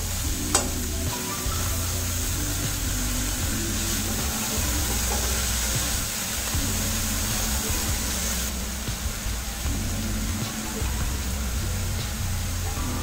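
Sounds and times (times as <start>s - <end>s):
leaves sizzling in hot oil: 0.0s - 13.0s.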